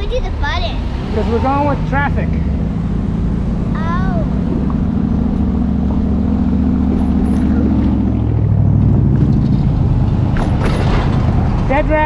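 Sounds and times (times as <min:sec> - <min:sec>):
vehicle engine running: 0:00.0 - 0:12.0
low rumble: 0:00.6 - 0:12.0.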